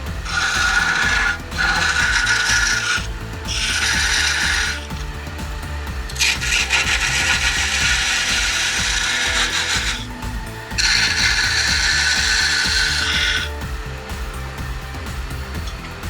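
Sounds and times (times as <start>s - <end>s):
lathe tool scraping wood: 0.0s - 13.6s
lathe low hum: 0.0s - 16.0s.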